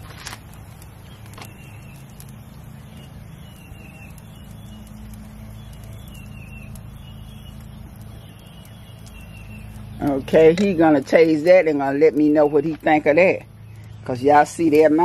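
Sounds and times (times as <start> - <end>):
low mechanical hum: 0.0 - 15.0
bird chirping: 1.0 - 15.0.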